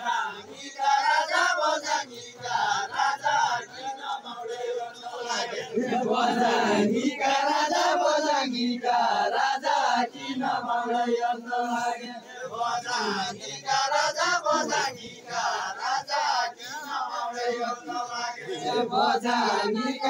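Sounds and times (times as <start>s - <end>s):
group chanting folk song: 0.0s - 20.0s.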